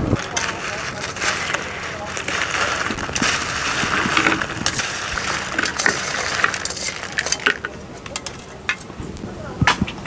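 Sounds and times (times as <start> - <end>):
hot oil sizzling and popping: 0.0 - 9.0.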